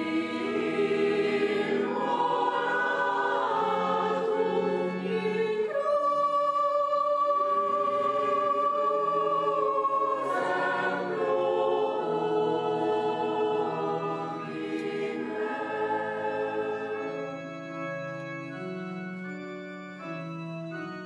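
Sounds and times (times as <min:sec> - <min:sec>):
choir singing held chords: 0:00.0 - 0:17.8.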